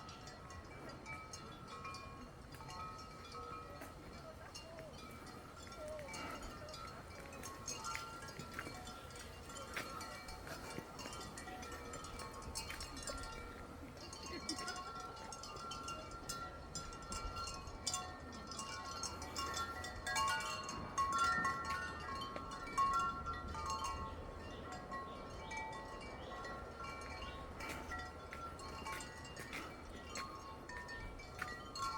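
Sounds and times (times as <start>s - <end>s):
wind chimes ringing: 0.0s - 31.9s.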